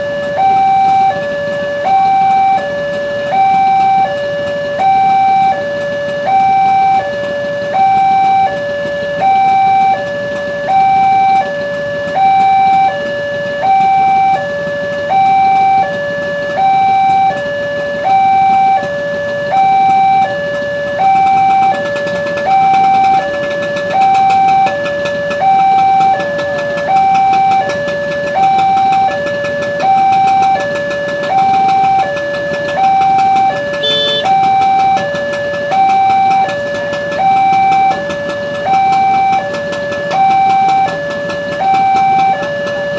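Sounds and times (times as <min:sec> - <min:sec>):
level crossing two-tone alarm: 0:00.0 - 0:42.9.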